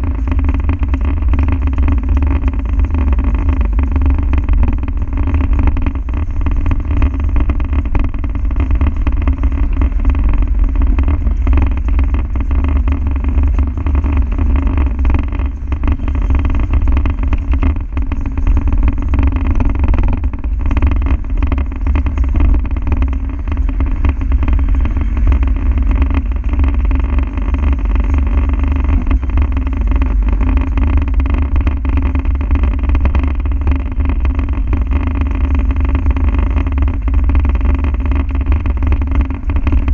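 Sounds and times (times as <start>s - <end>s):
diesel engine running: 0.0s - 39.9s
road and drivetrain noise: 0.0s - 39.9s.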